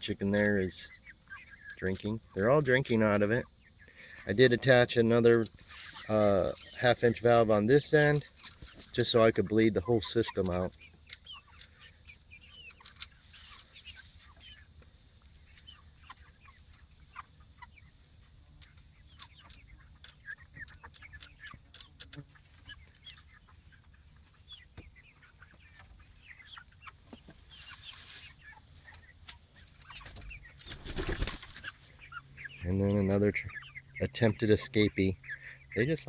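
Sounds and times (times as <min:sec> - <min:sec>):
chickens clucking quietly: 0:00.0 - 0:36.0.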